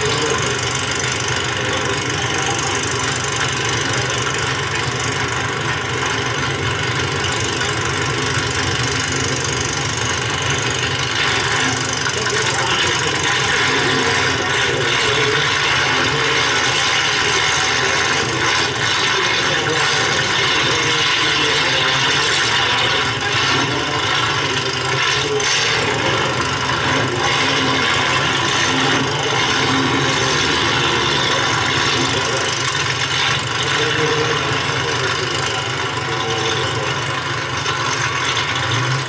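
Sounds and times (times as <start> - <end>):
car engines idling: 0.0 - 39.0.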